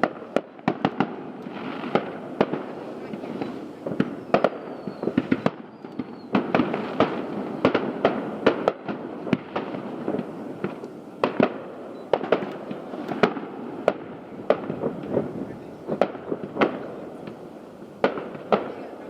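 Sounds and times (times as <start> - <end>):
fireworks bangs and booms: 0.0 - 19.0
fireworks crackling: 0.0 - 19.0.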